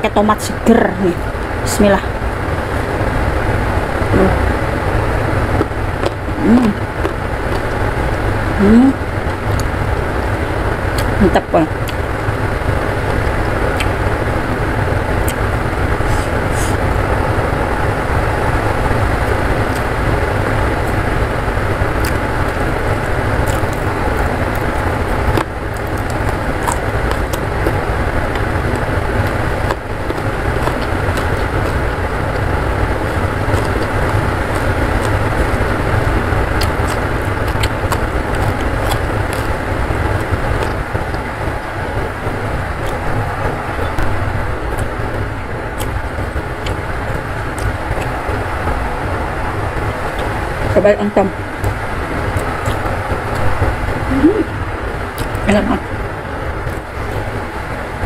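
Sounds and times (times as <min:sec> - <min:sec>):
steady rumble and hiss: 0:00.0 - 0:58.0
chewing and crunching food: 0:05.4 - 0:14.2, 0:15.2 - 0:16.8, 0:18.6 - 0:49.1, 0:49.8 - 0:50.8, 0:51.4 - 0:54.2, 0:55.0 - 0:55.5, 0:56.6 - 0:58.0.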